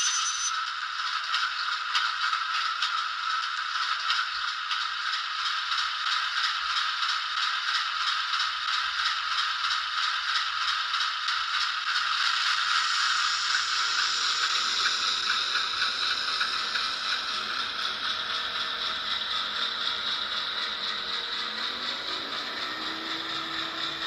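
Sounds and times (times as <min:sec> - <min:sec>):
model train diesel engine sound: 0:00.0 - 0:24.0.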